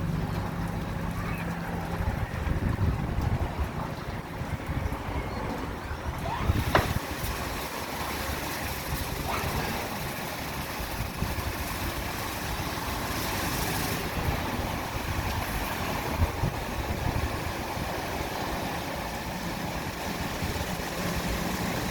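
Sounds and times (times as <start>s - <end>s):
car wash water and machinery: 0.0s - 21.9s.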